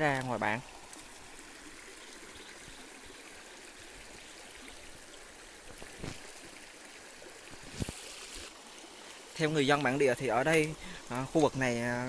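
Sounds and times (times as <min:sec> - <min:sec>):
stream flowing over stones: 0:00.0 - 0:12.0.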